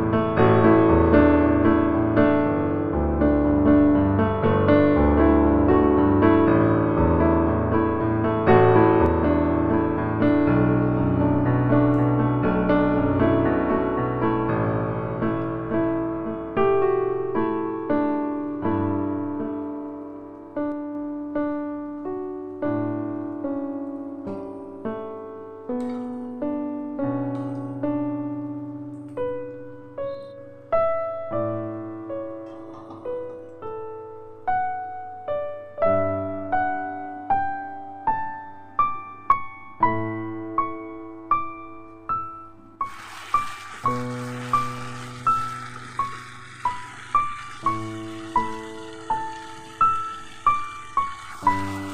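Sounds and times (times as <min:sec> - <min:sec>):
slow piano music: 0:00.0 - 0:51.9.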